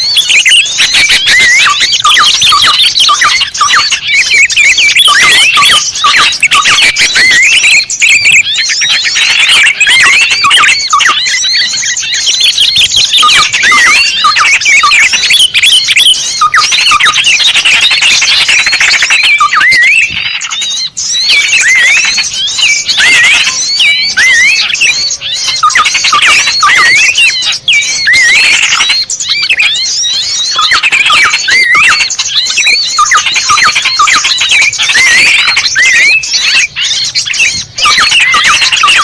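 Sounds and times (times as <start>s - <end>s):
small birds chirping chorus: 0.0s - 39.0s.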